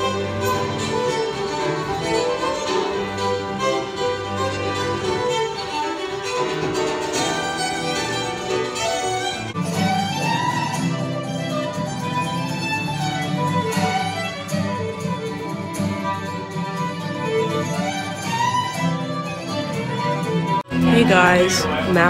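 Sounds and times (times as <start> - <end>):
fiddle playing a tune: 0.0 - 22.0
piano accompaniment: 0.0 - 22.0.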